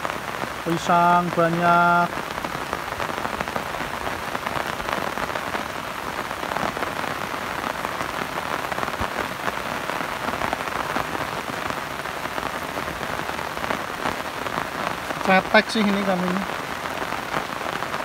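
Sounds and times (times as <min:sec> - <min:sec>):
rain falling on river: 0:00.0 - 0:18.0.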